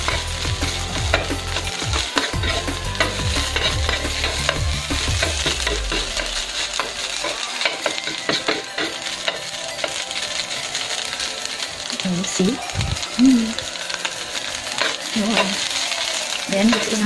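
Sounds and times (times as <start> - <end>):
metal spatula scraping a wok: 0.0 - 12.0, 13.5 - 17.0
oil sizzling: 0.0 - 17.0.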